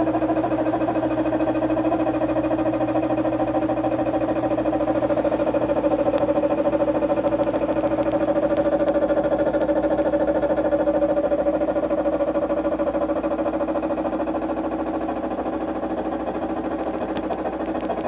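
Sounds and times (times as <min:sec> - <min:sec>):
washing machine grinding spin: 0:00.0 - 0:18.0.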